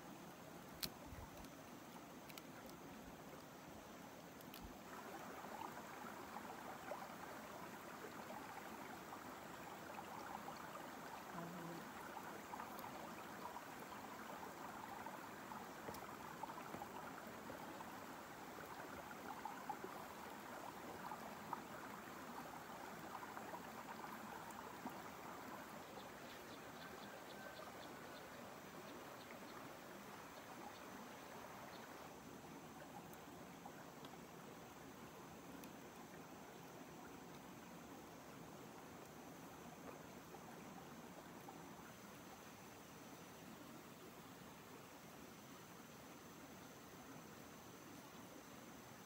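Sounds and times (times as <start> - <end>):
small stream rushing: 0.0 - 49.0.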